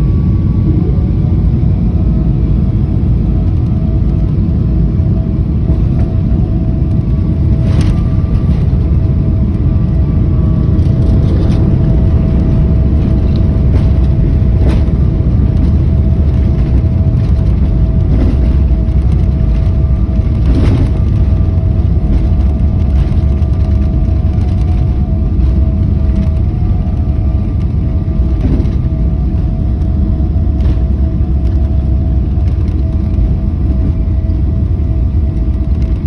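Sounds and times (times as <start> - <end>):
airliner cabin rumble: 0.0 - 36.0
steady whine: 0.0 - 36.0.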